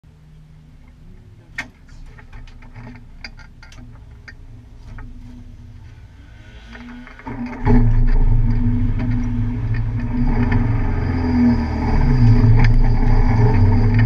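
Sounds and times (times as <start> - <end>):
car engine idling: 0.1 - 14.0.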